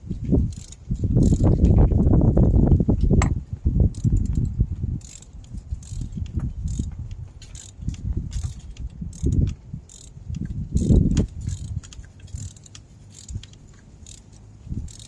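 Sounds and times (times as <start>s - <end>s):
ratchet wrench clicking: 0.4s - 1.8s, 3.8s - 15.0s.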